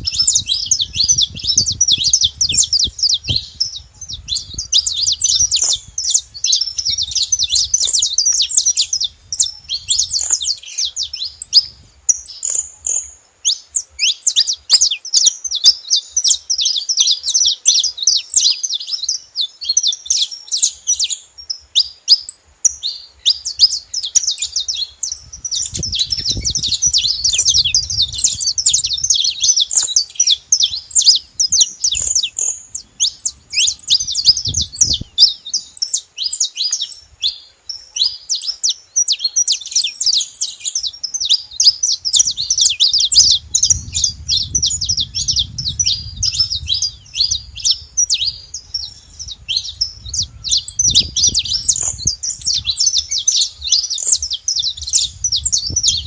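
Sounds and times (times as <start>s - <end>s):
finch singing high chirps: 0.0s - 56.0s.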